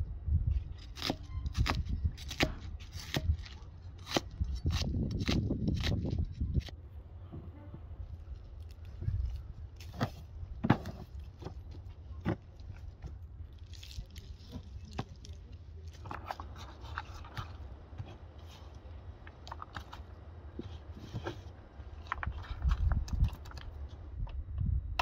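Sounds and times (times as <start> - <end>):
steady low rumble: 0.0 - 0.9, 1.6 - 25.0.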